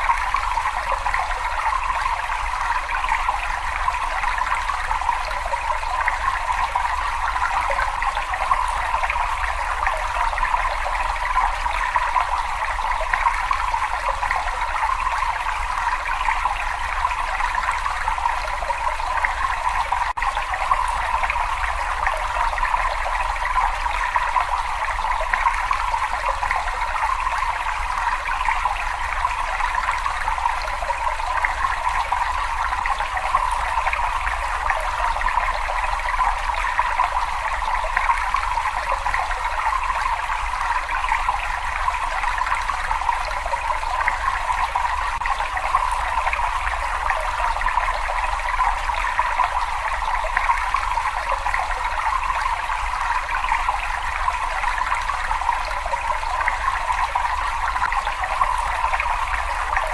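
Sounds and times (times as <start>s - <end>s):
water trickling in a cave: 0.0s - 59.9s.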